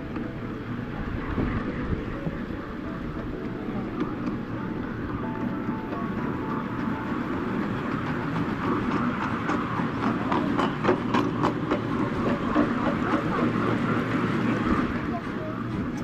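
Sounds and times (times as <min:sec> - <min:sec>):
miniature train rumbling: 0:00.0 - 0:16.0
wheel clicks over rail joints: 0:02.4 - 0:16.0.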